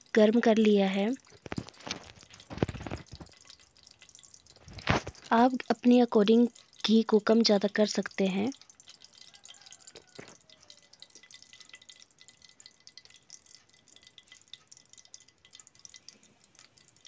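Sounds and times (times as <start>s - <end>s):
hot fat crackling in a pan: 0.0s - 17.0s.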